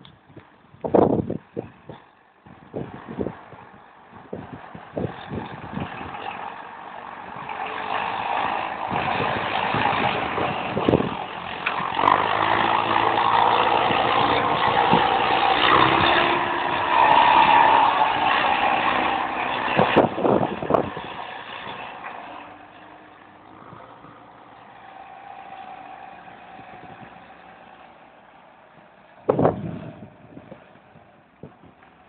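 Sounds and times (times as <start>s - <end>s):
diesel engine revving: 2.5s - 32.0s.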